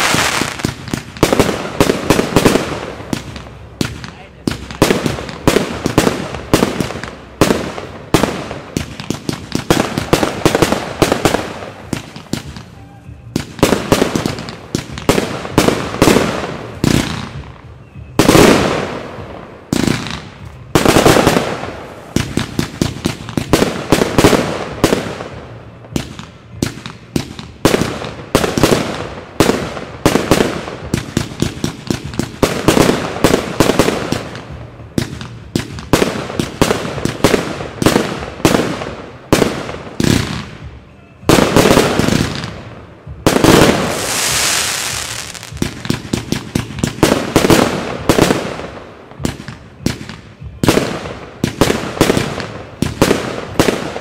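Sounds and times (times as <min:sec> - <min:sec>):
fireworks bursting: 0:00.0 - 0:54.0
heavy firework booms: 0:00.0 - 0:54.0.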